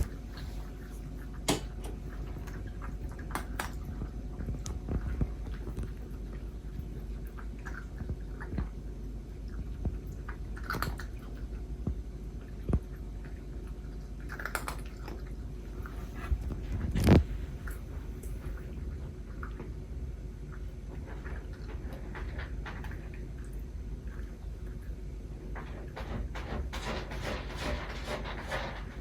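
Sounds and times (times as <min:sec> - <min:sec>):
cats chewing food: 0:00.0 - 0:29.0.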